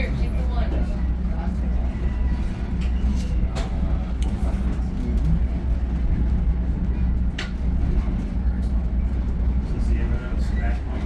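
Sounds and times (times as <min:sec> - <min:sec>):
train car rumbling on track: 0:00.0 - 0:11.0.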